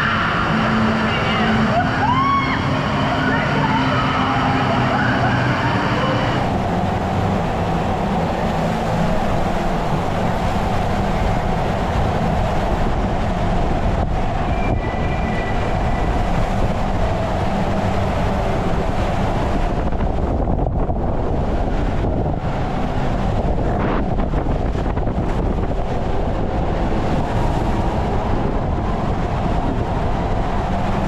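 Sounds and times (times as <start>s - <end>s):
low rumble: 0.0s - 31.0s
water rushing in slide tube: 0.0s - 31.0s.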